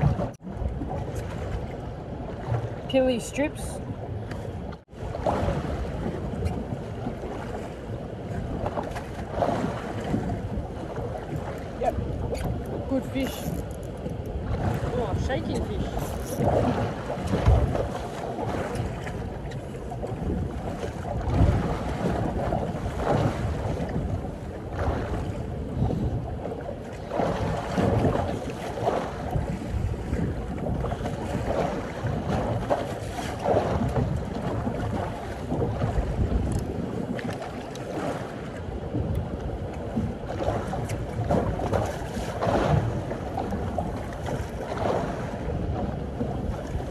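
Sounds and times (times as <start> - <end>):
water slapping against boat hull: 0.0 - 46.9
wind buffeting microphone: 0.0 - 46.9.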